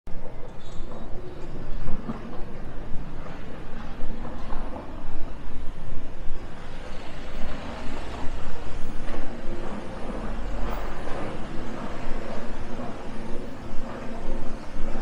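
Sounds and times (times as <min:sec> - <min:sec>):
large vehicle rumbling: 0:00.2 - 0:15.0
road noise: 0:00.2 - 0:15.0.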